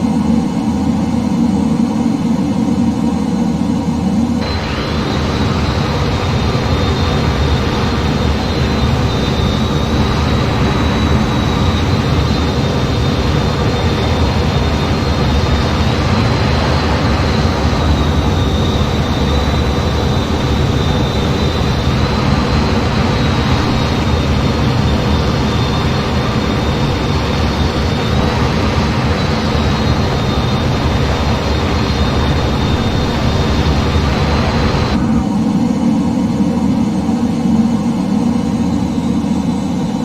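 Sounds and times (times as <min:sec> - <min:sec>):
constant high whine: 0:00.0 - 0:40.0
jet aircraft cabin noise: 0:02.7 - 0:36.8.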